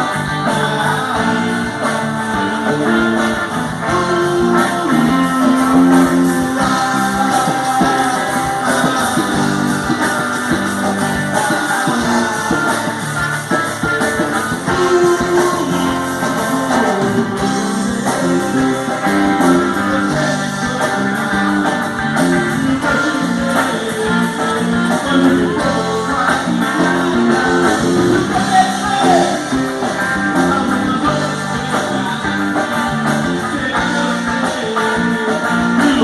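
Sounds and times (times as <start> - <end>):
guitar instrumental song: 0.0 - 36.0.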